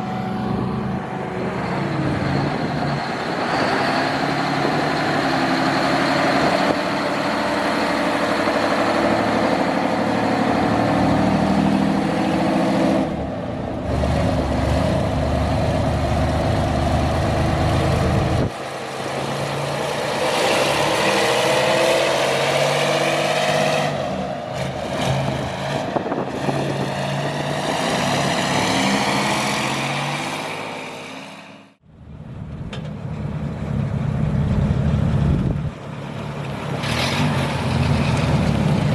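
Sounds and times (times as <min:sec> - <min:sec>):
diesel truck engines running: 0:00.0 - 0:38.9.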